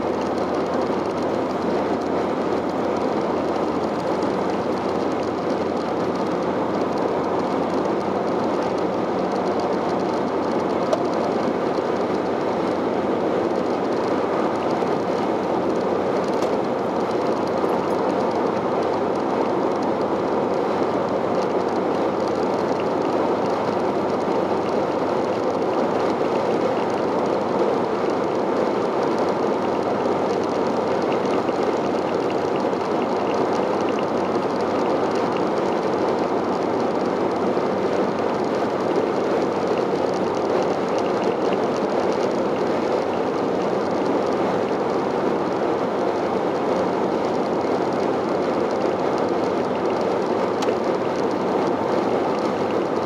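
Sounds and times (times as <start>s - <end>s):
engine drone: 0.0s - 53.0s.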